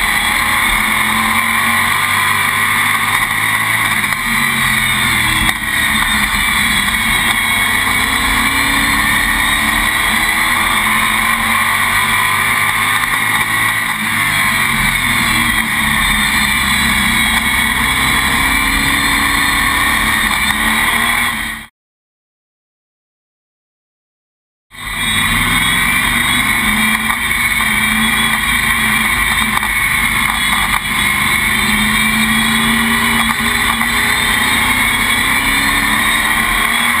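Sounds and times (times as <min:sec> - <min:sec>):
race car engine running: 0:00.0 - 0:21.7, 0:24.8 - 0:37.0.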